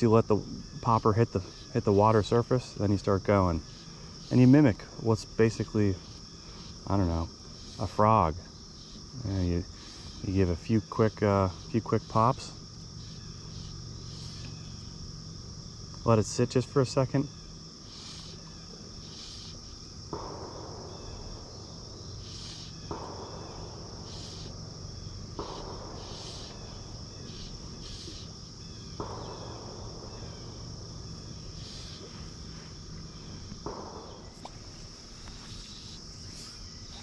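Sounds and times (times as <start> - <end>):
crickets and insects chirping: 0.0 - 37.0.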